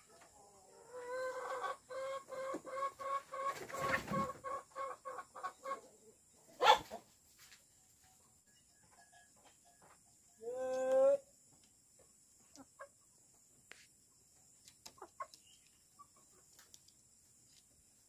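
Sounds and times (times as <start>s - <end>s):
chicken clucking: 0.0s - 13.6s, 14.2s - 17.7s.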